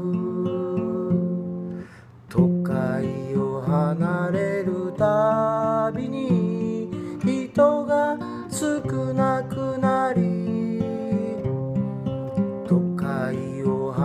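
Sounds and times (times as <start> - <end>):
person singing: 0.0 - 11.7, 12.7 - 14.0
acoustic guitar: 0.0 - 14.0.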